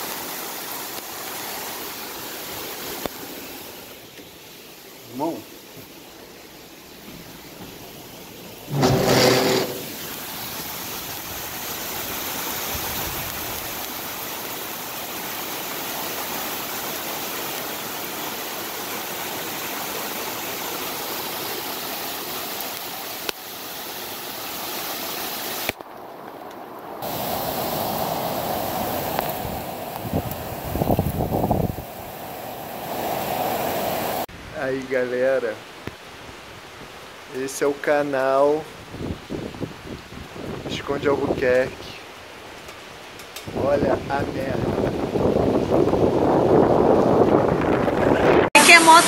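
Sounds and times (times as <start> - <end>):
torrential rain and floodwater rushing: 0.0 - 49.0.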